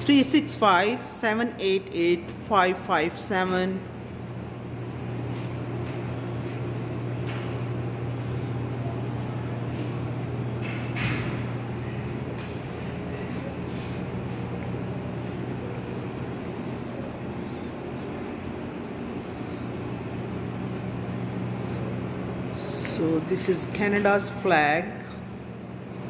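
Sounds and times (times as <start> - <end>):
machinery humming: 0.0 - 26.0.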